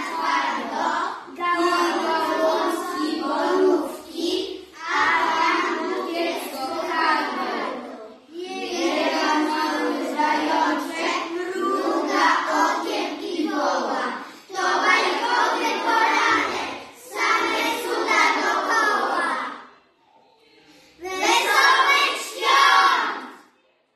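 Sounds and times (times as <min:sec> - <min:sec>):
children singing in unison: 0:00.0 - 0:19.8, 0:21.1 - 0:23.4.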